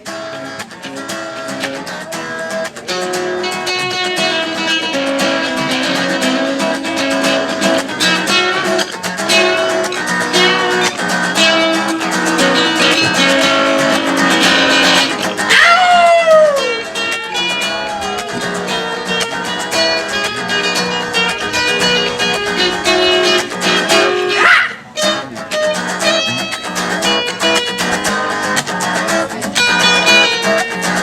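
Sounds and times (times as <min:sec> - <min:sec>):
picked guitar lead melody: 0:00.0 - 0:31.0
strummed acoustic guitar chords: 0:00.0 - 0:31.0.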